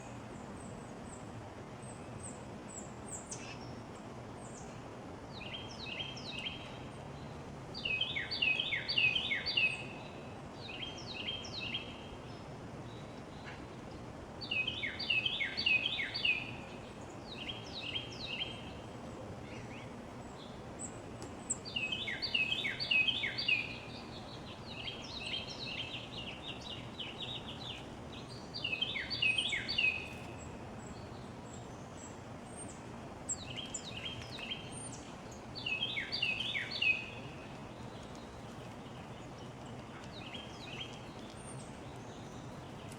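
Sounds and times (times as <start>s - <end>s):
songbird singing: 5.3s - 13.6s, 14.4s - 42.9s.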